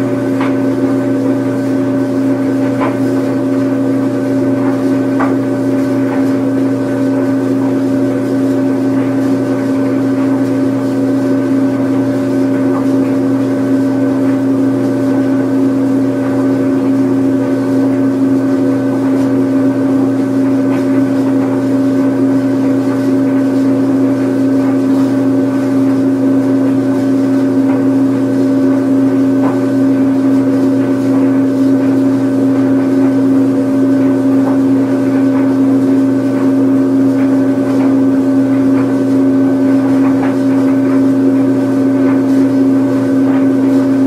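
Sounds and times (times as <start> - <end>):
washing machine spin cycle hum: 0.0 - 44.0.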